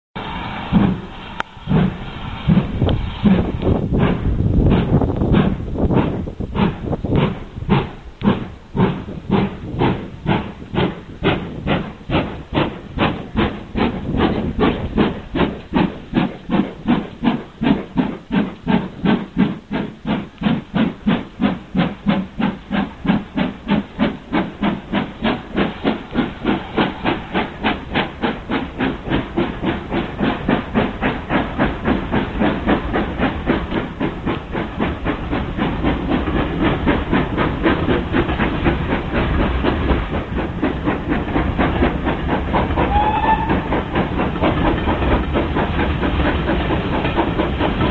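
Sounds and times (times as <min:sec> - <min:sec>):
steam locomotive chuffing: 0:00.2 - 0:47.9.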